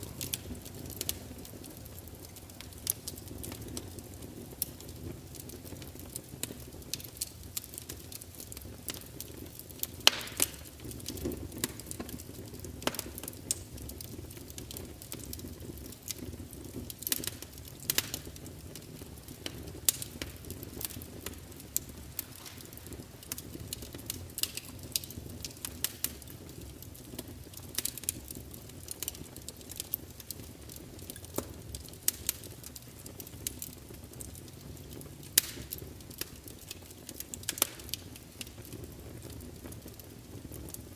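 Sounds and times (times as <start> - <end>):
fire pops and snaps: 0.0 - 40.9
low rustle of flames: 0.0 - 40.9
wood fire crackling: 0.0 - 40.9.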